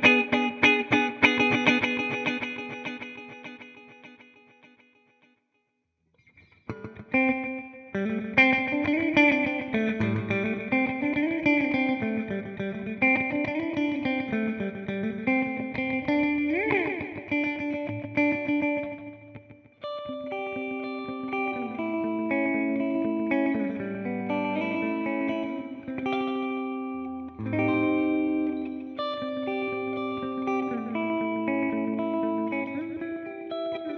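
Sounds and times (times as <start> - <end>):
electric guitar with delay echoes: 0.0 - 5.1, 6.4 - 33.9.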